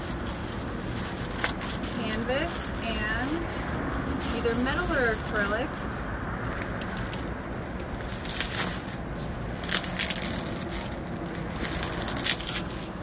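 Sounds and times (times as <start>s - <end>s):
packing material crinkling: 0.0s - 13.0s.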